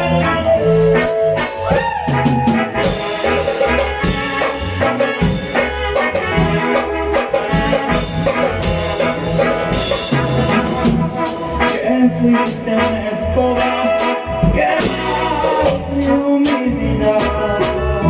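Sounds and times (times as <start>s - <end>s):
brass band music: 0.0s - 18.0s.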